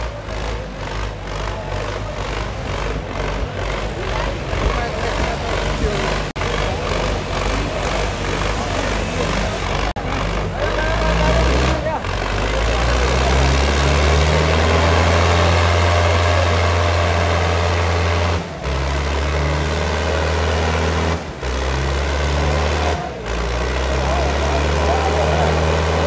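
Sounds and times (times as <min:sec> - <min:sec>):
tractor diesel engines droning: 0:00.0 - 0:26.0.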